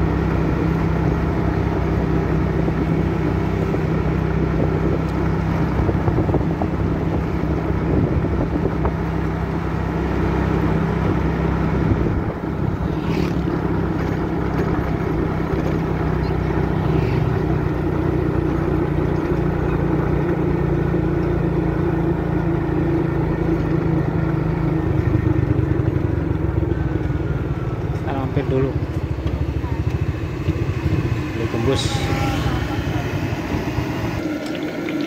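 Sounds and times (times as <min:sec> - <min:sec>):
motorcycle engine running: 0:00.0 - 0:35.0
road noise: 0:00.0 - 0:35.0.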